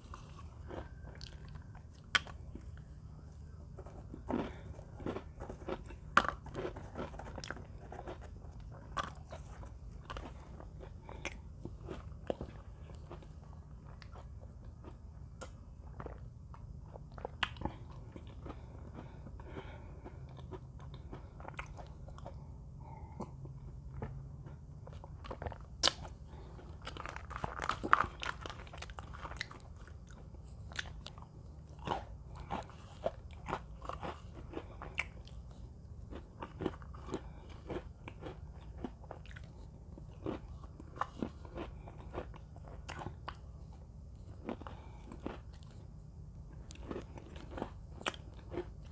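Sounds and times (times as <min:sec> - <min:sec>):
crunching and chewing cookies: 0:00.0 - 0:48.9
steady low hum: 0:00.0 - 0:48.9.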